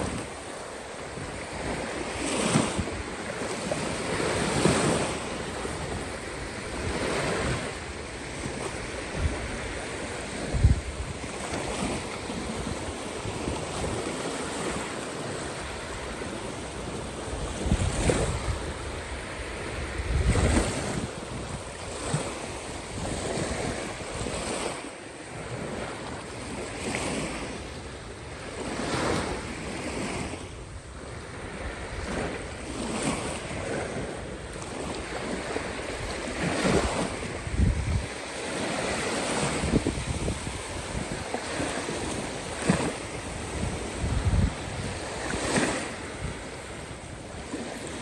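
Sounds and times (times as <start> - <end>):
sea waves breaking: 0.0 - 48.0
wind buffeting microphone: 0.0 - 48.0.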